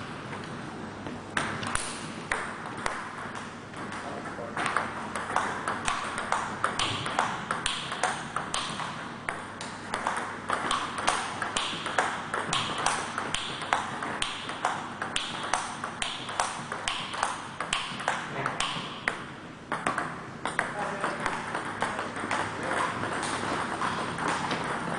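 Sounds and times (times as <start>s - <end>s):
table tennis ball rally: 0.2s - 24.9s.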